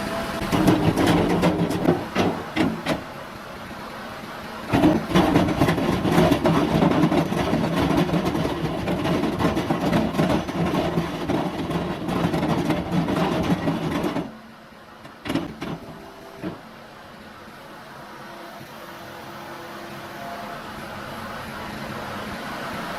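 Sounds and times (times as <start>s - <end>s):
skid steer engine running: 0.0s - 22.9s.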